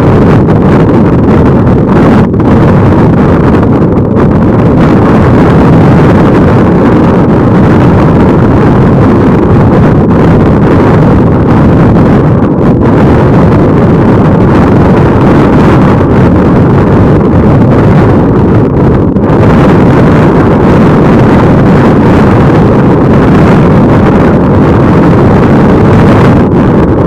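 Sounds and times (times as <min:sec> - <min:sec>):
strong wind on microphone: 0:00.0 - 0:27.0.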